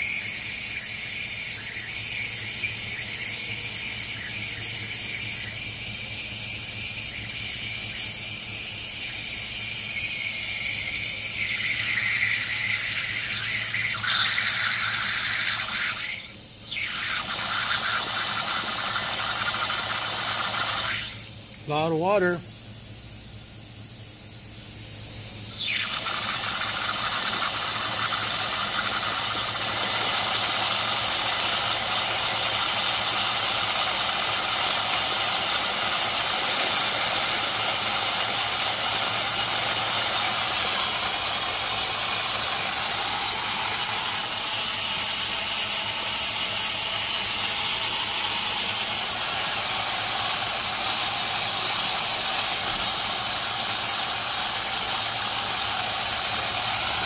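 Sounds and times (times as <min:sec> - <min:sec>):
pressurised air and water hissing: 0:00.0 - 0:57.0.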